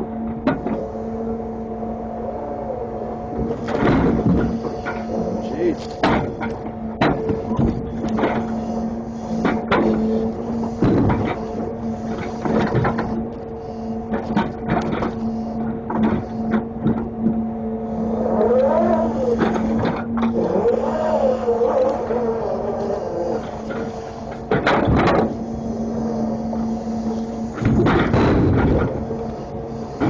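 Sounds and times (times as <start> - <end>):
engine and hydraulics humming: 0.0 - 30.0
wavering whine: 0.0 - 30.0.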